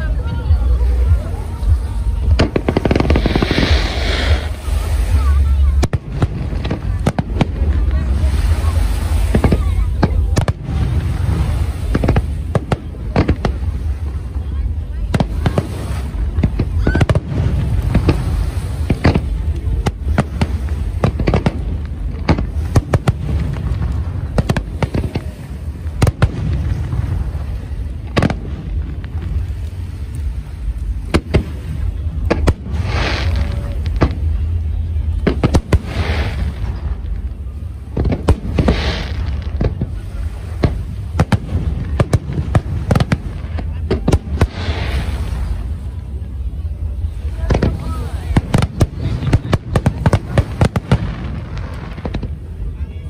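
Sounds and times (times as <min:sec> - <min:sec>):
fireworks bangs: 0:00.0 - 0:53.0
fireworks hissing: 0:00.0 - 0:53.0
low rumble: 0:00.0 - 0:53.0.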